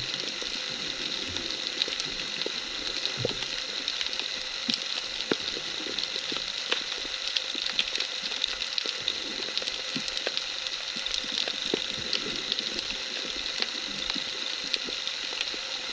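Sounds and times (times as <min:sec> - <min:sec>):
underwater hiss with crackling clicks: 0:00.0 - 0:15.9.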